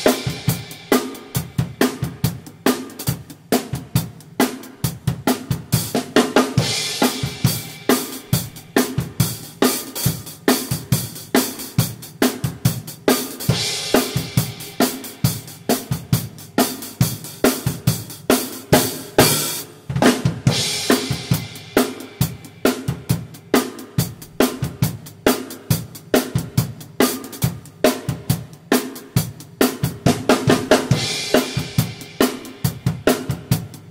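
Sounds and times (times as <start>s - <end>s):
drum kit groove: 0.0s - 33.9s.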